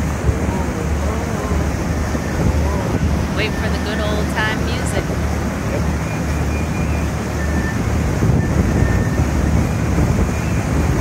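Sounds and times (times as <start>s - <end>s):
boat engine running: 0.0s - 11.0s
wind rumbling on microphone: 0.0s - 11.0s.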